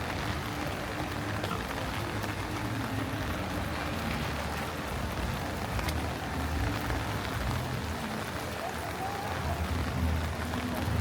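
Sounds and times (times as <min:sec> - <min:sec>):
heavy rain on a street: 0:00.0 - 0:11.0.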